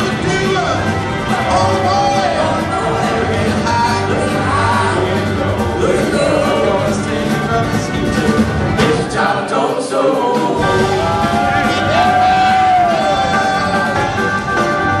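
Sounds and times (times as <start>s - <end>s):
live band with guitar and banjo: 0.0s - 15.0s
person singing: 1.3s - 15.0s.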